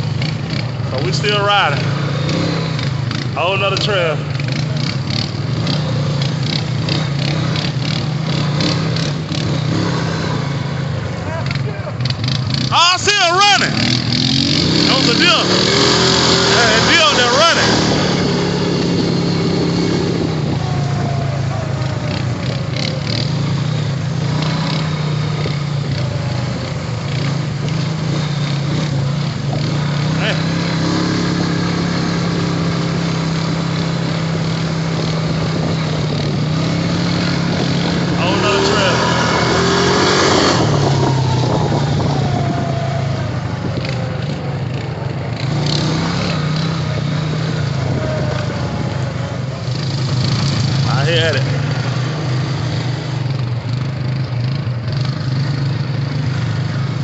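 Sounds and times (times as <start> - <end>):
atv engine running: 0.0 - 57.0
tyres on dirt trail: 0.0 - 57.0.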